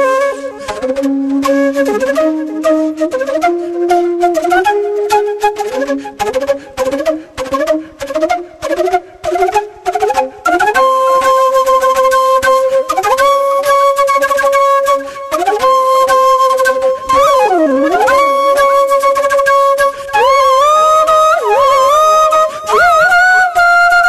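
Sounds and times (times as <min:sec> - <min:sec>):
flute music: 0:00.0 - 0:24.0.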